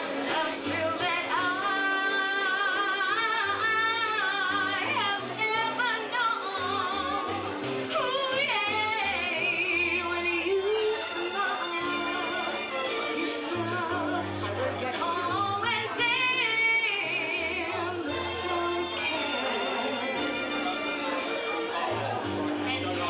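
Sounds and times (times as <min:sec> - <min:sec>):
instrumental accompaniment: 0:00.0 - 0:23.0
woman singing with vibrato: 0:00.2 - 0:20.4.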